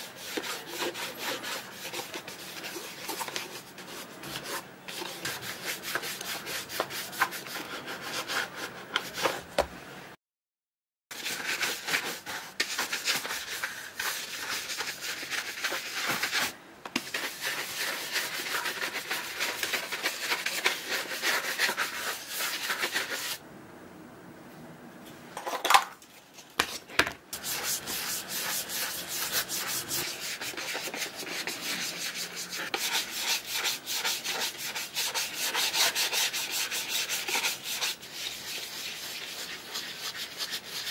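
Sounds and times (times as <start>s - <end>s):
brush rubbing leather shoe: 0.0s - 9.3s, 11.1s - 23.4s, 27.4s - 40.9s.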